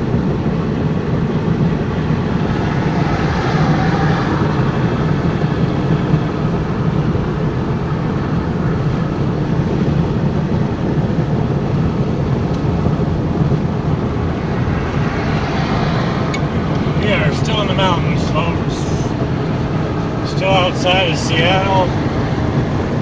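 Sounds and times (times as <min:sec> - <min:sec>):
vehicle engine rumble: 0:00.0 - 0:23.0
wind noise: 0:00.0 - 0:23.0.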